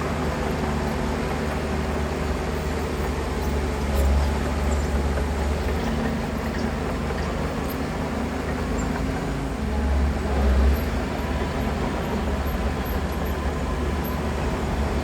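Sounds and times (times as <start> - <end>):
heavy machinery diesel engine rumbling: 0.0 - 15.0.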